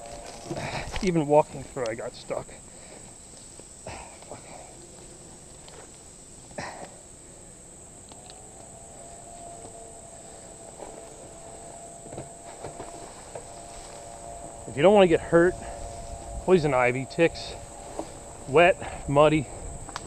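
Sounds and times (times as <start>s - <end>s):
bike rustling in brush: 0.0s - 20.0s
high-pitched insect chorus: 0.0s - 20.0s.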